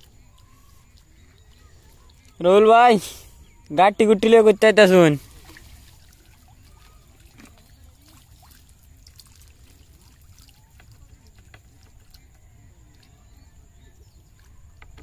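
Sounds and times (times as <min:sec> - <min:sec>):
small water splashes: 0:00.0 - 0:03.5, 0:04.9 - 0:15.0
water trickling and dripping: 0:00.0 - 0:15.0.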